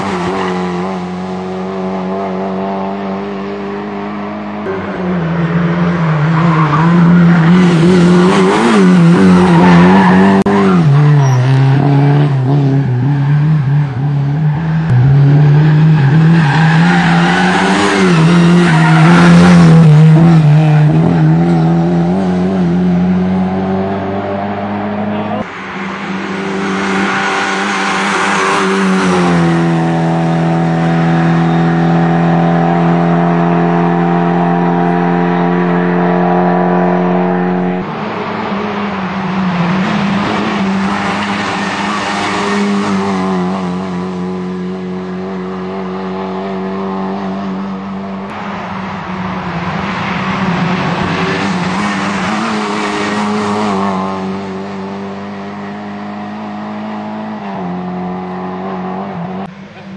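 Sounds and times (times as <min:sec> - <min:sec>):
car engine revving: 0:00.0 - 0:59.8
tyre and road noise: 0:00.0 - 0:59.9.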